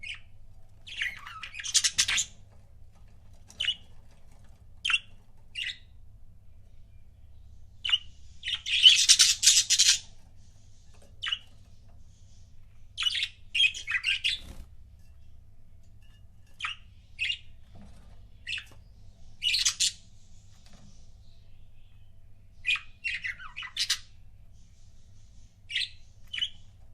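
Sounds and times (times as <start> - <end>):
budgerigars chirping and chattering: 0.0 - 2.6, 3.2 - 5.9, 7.1 - 14.7, 16.5 - 26.9.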